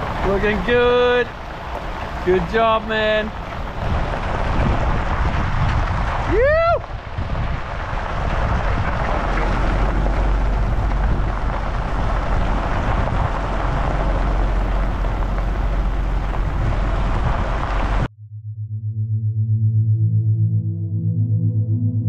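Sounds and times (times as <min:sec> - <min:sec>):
wind on microphone: 0:00.0 - 0:18.1.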